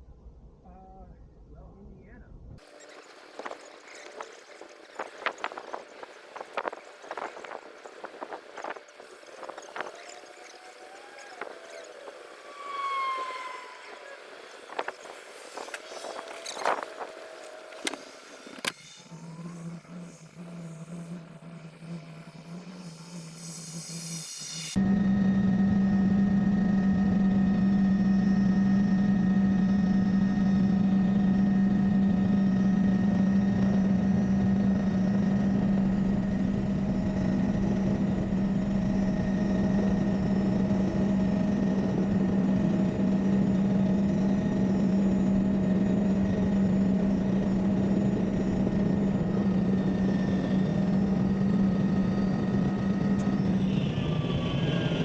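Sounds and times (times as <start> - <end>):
helicopter drone: 2.6 - 55.0.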